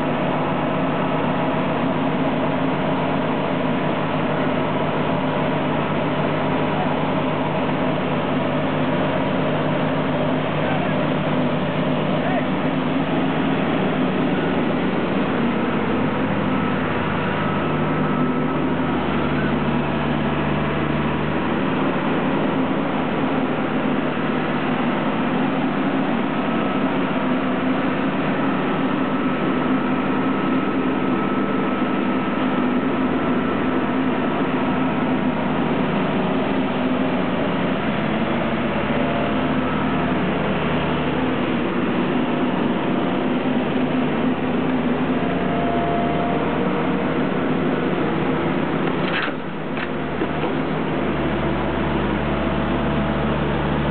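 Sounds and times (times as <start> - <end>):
heavy machinery running: 0.0 - 53.9.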